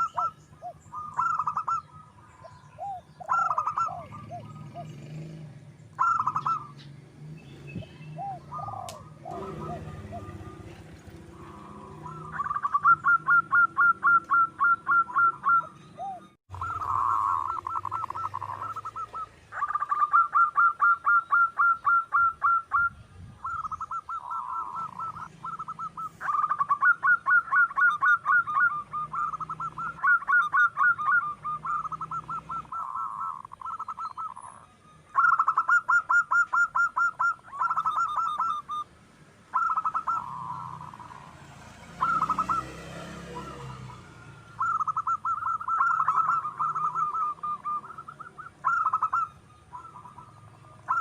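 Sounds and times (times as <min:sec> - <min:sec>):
dove cooing: 0:00.0 - 0:38.9, 0:39.5 - 0:51.0.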